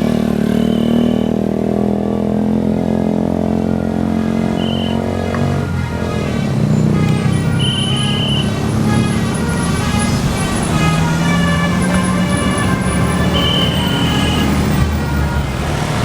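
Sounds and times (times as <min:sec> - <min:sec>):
multi-tone musical bus horn: 0:00.0 - 0:02.2, 0:03.4 - 0:16.0
bus engine running: 0:00.0 - 0:16.0.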